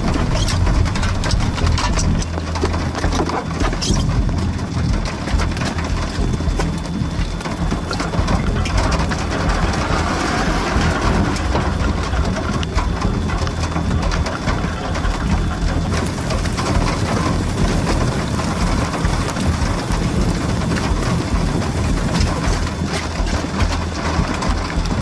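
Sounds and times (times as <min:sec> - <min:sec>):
deep rumble: 0:00.0 - 0:25.0
heavy rain: 0:00.0 - 0:25.0
wind: 0:00.0 - 0:25.0.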